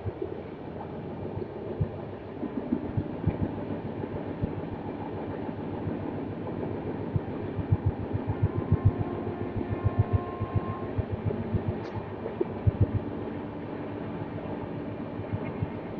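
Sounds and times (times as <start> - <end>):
passenger train rumbling: 0.0 - 15.9.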